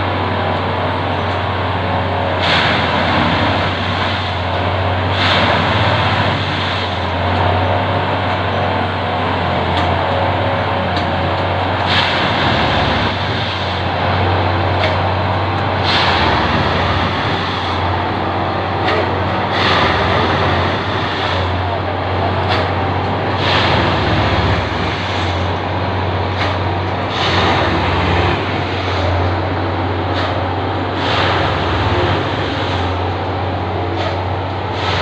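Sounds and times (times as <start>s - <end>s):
heavy engine running: 0.0s - 35.0s
loud mechanical clatter: 0.0s - 35.0s.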